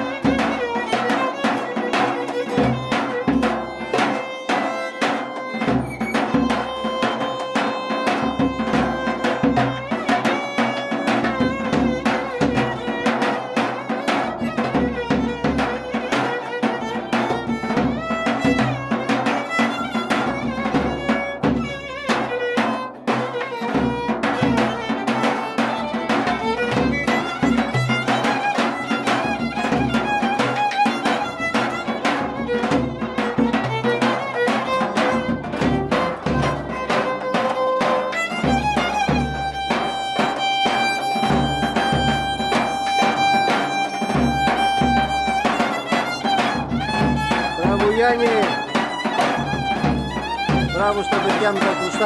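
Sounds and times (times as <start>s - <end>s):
fiddle melody: 0.0s - 52.0s
folk band dance tune: 0.0s - 52.0s
steady drum beat: 0.0s - 52.0s.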